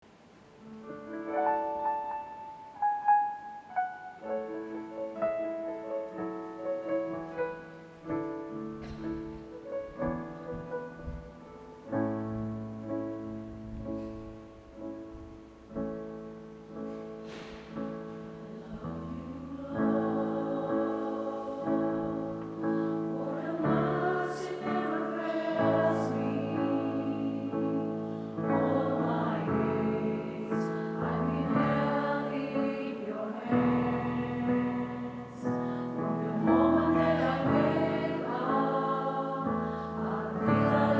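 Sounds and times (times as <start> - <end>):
slow piano melody and chords: 0.0 - 40.9.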